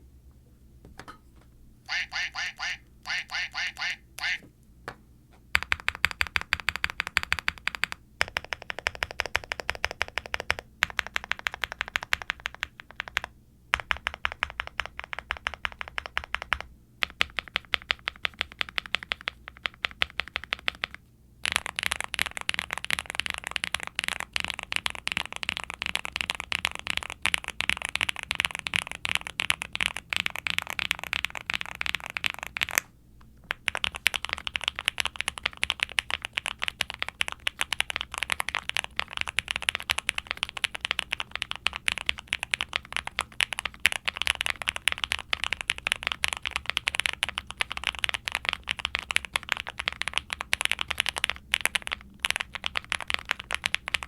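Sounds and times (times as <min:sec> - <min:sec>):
mechanical keyboard typing: 0:05.5 - 0:54.0.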